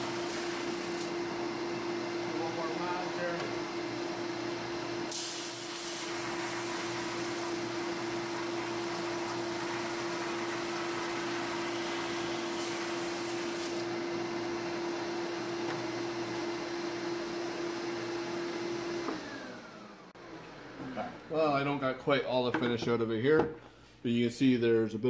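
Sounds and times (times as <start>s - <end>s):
drum sander humming: 0.0s - 21.8s.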